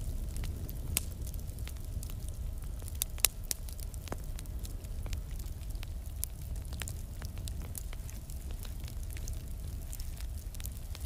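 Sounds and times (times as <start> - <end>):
fire crackling and popping: 0.0 - 11.0
low steady rumble: 0.0 - 11.0.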